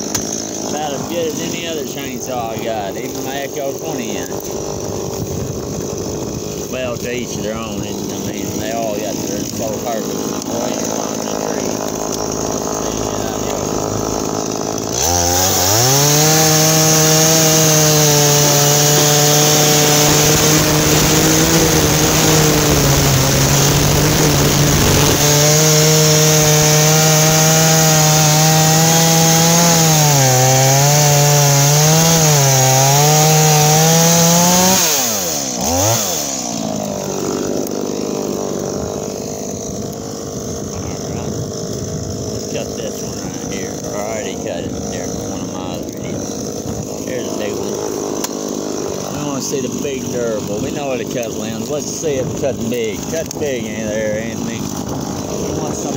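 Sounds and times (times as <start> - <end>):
chainsaw cutting log: 0.0 - 55.9.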